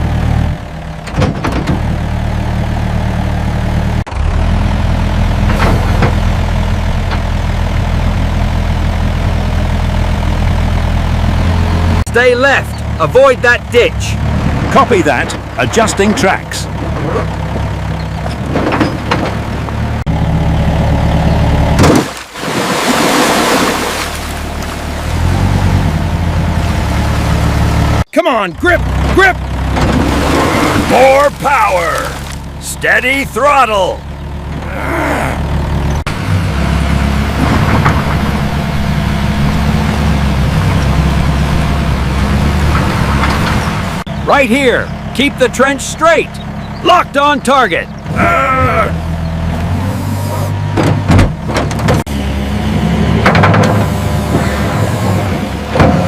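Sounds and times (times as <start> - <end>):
excavator engine humming: 0.0 - 56.0.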